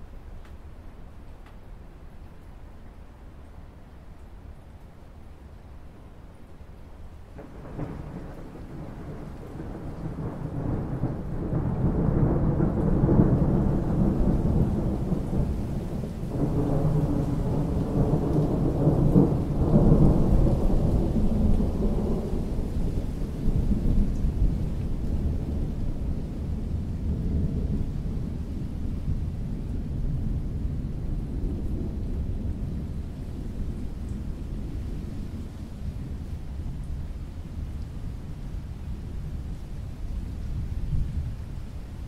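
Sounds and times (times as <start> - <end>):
rain falling on water: 0.0 - 42.0
low roll of thunder: 7.3 - 42.0.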